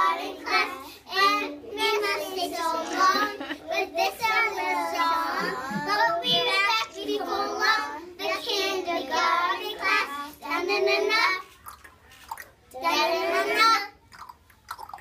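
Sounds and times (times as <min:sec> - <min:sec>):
children singing together: 0:00.0 - 0:11.6, 0:12.7 - 0:14.0.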